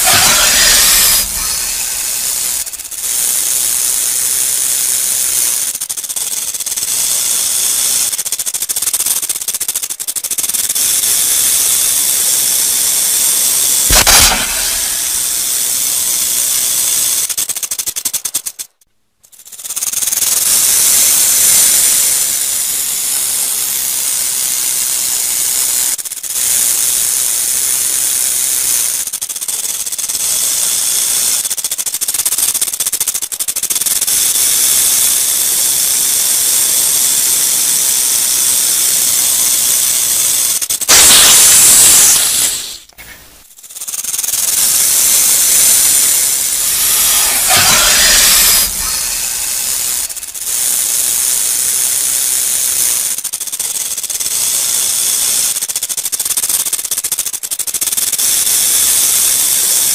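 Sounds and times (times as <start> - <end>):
rattlesnake tail rattling: 0.0 - 59.9.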